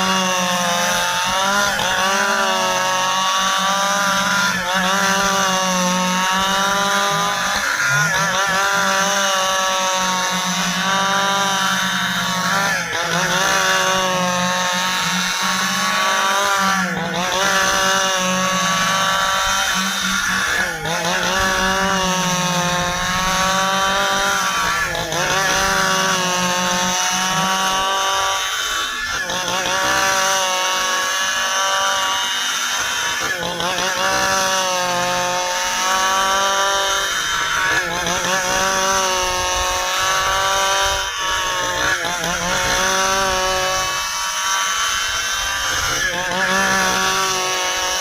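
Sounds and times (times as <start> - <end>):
chainsaw cutting hardwood: 0.0 - 48.0.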